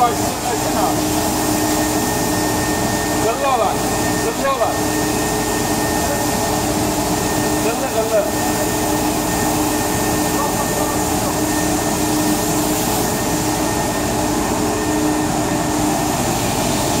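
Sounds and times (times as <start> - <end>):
industrial vacuum cleaner running: 0.0 - 17.0.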